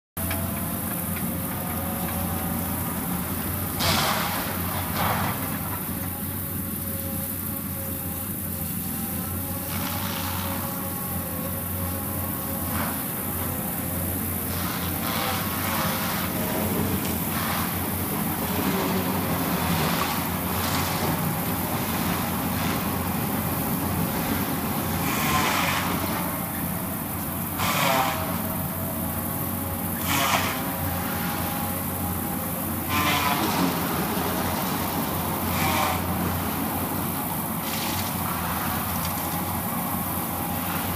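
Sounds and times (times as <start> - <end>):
excavator diesel engine running: 0.2 - 40.9
grinder grinding a stump: 0.2 - 40.9.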